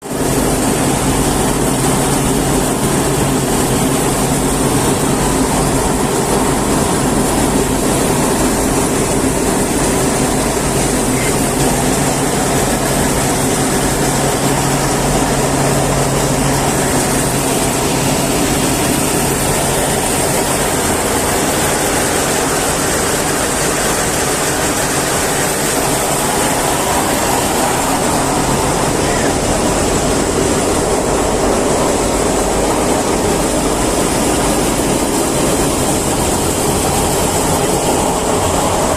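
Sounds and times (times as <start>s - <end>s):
machine drone: 0.0s - 38.9s.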